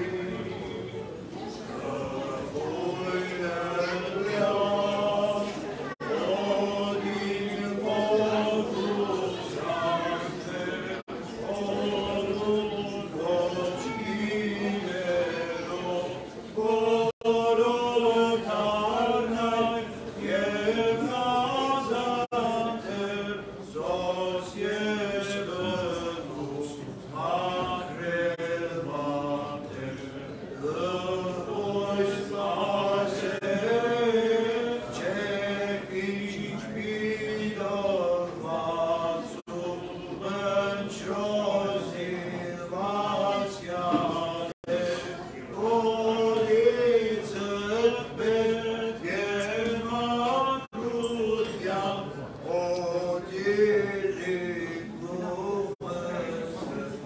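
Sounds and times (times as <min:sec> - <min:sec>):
voices chanting a melody: 0:00.0 - 0:57.0.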